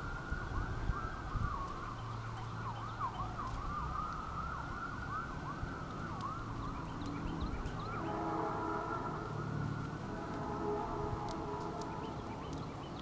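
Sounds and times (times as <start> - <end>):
sirens yelping: 0.0 - 13.0.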